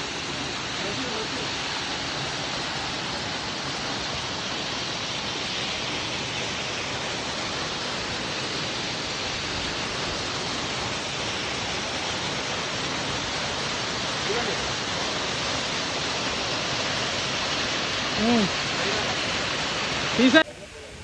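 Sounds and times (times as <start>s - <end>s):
waterfall splashing: 0.0s - 20.4s.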